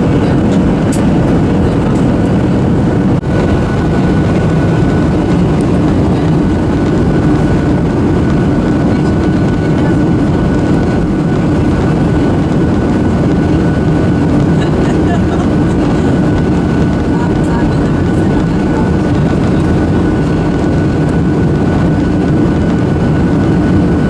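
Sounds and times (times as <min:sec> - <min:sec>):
jet engine rumble: 0:00.0 - 0:24.0
rushing airflow: 0:00.0 - 0:24.0.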